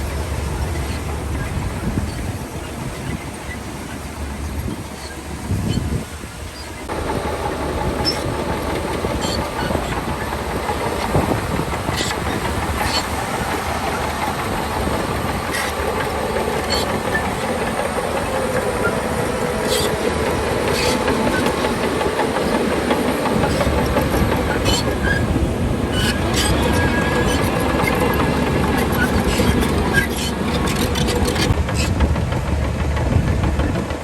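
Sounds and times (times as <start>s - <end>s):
diesel engine running: 0.0s - 34.0s
steel tracks clattering: 0.0s - 34.0s.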